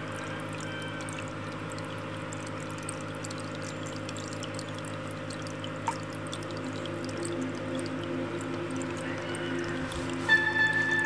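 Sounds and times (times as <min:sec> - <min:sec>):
aquarium water trickling and bubbling: 0:00.0 - 0:11.0
low electric hum: 0:00.0 - 0:11.0.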